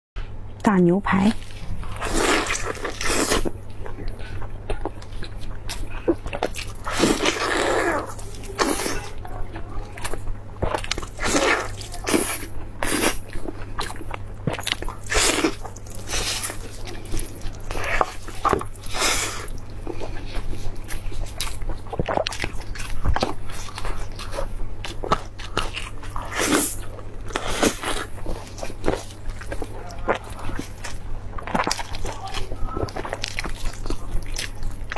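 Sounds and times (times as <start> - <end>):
person chewing crunchy food: 1.4 - 34.9.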